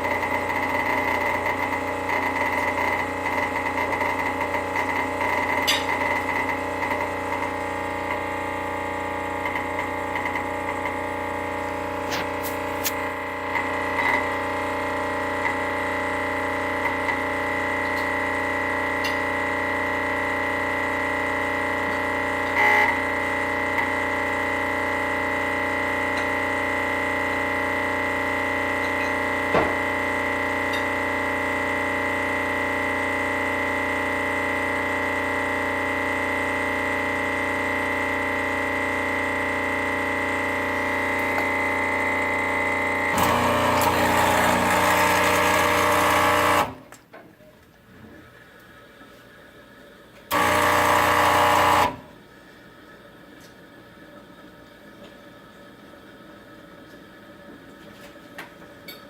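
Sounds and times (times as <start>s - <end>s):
espresso machine buzzing hum: 0.0s - 46.9s, 48.2s - 57.6s.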